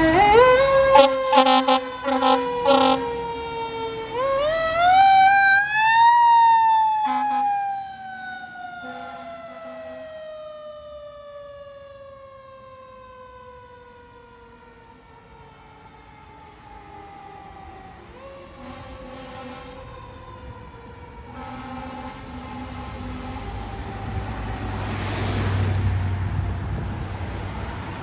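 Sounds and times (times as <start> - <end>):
fire engine siren: 0.0 - 28.0.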